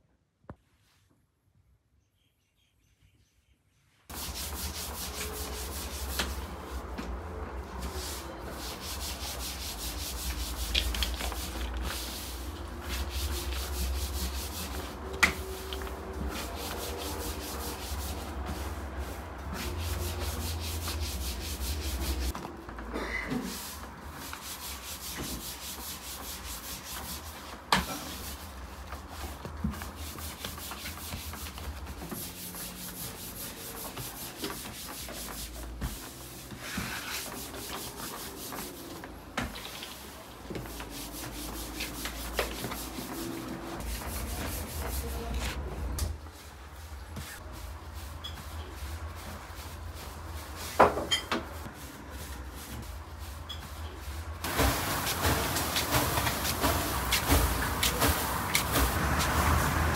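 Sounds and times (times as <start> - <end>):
dough rubbing on wood: 4.1 - 22.4, 23.3 - 51.0, 54.0 - 59.9.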